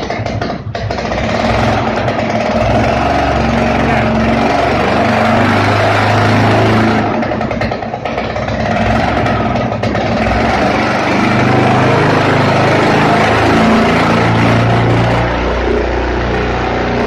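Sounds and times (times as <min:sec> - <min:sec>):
paramotor engine running: 0:00.0 - 0:17.0.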